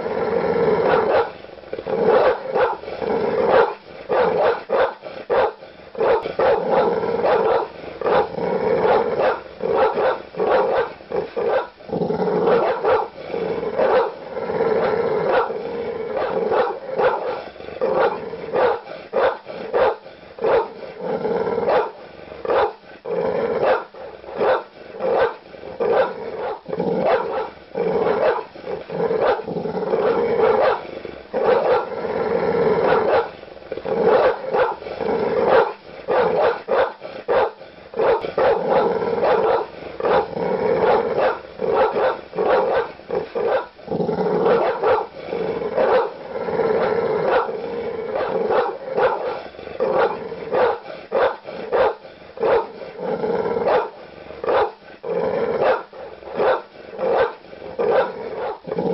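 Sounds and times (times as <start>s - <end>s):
large dog barking aggressively: 0.0s - 58.9s.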